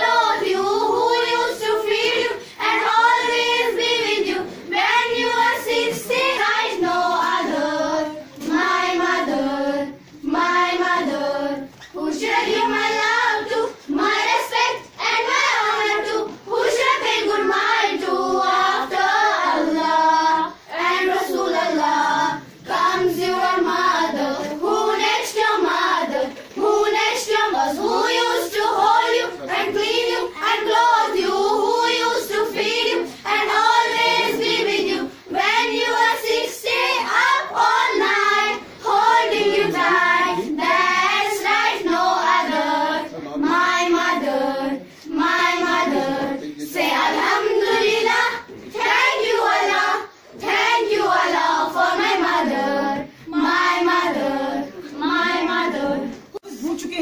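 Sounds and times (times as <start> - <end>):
girls singing in unison: 0.0 - 56.4.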